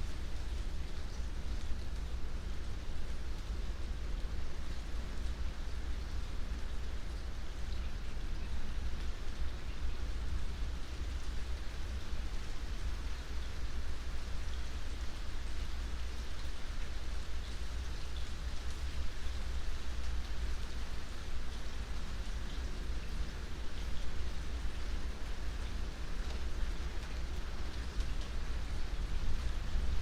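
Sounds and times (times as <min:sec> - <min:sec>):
rain hissing: 0:00.0 - 0:30.0.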